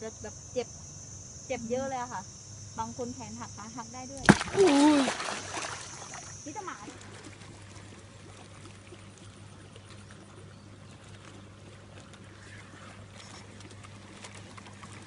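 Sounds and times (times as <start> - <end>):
low constant hum: 0.0 - 15.0.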